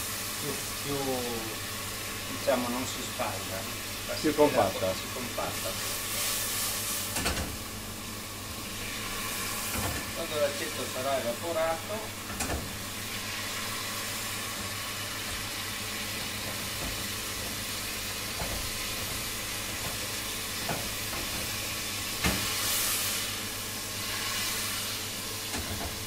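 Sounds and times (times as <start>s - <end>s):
fish sizzling in a pan: 0.0s - 26.0s.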